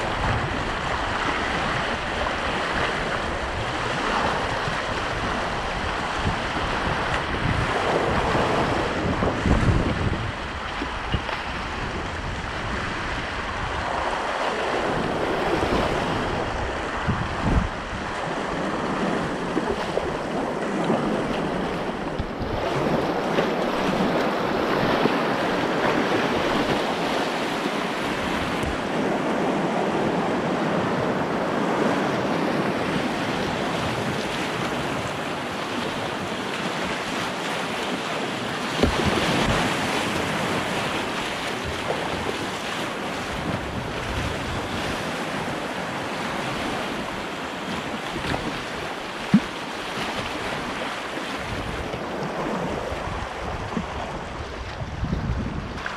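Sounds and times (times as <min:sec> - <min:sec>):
whitewater rushing: 0:00.0 - 0:55.0
wind buffeting microphone: 0:00.0 - 0:55.9.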